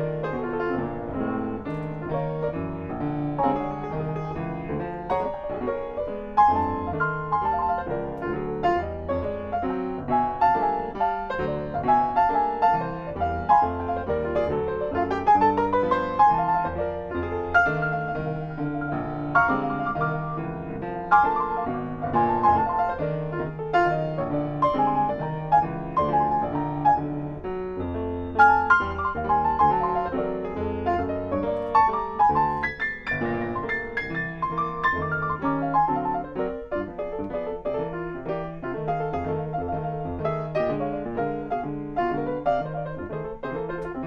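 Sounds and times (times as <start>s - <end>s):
solo grand piano: 0.0s - 44.0s.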